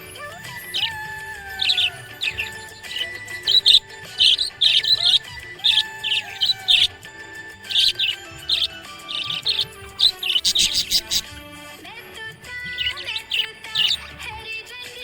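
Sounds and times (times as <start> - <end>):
budgerigars chirping: 0.0 - 11.8, 12.5 - 14.5
background music: 0.0 - 15.0.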